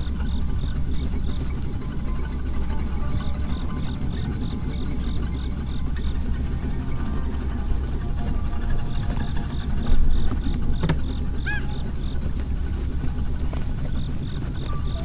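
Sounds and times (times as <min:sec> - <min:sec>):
high-pitched pulsing: 0:00.0 - 0:15.0
vehicle engine idling: 0:00.0 - 0:15.0.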